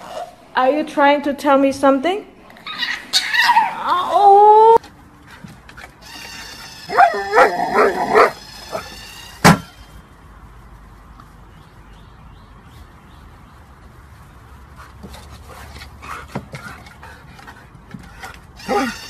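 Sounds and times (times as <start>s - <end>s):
outdoor background: 0.0s - 19.0s.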